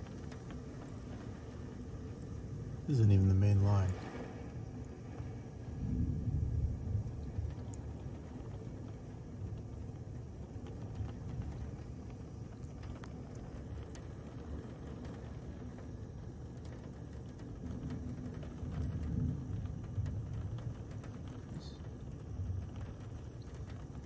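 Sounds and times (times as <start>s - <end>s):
heavy rain: 0.0s - 24.0s
wind rumbling on microphone: 0.0s - 24.0s.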